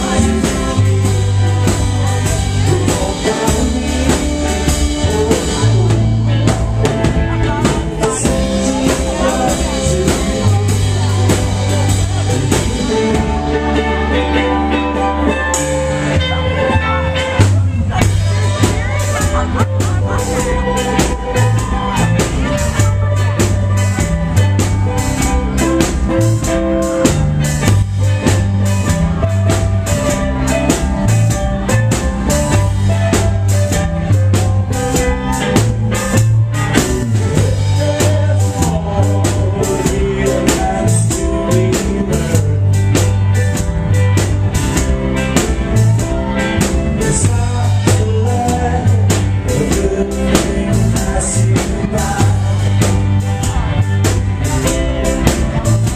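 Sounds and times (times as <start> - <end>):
bass line: 0.0 - 55.9
drum kit steady beat: 0.0 - 55.9
electric guitars: 0.0 - 55.9.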